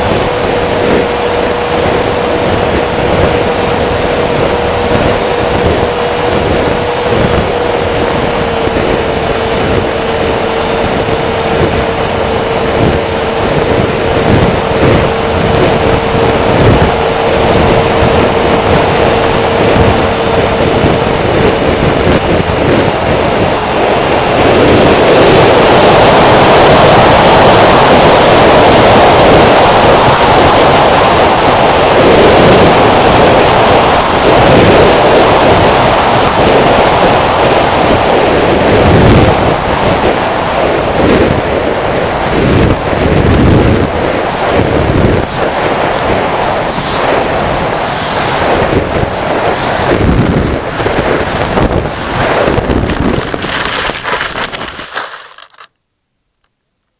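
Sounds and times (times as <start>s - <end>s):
wind buffeting microphone: 0.0s - 55.5s
drone motors and propellers whining: 0.0s - 55.7s.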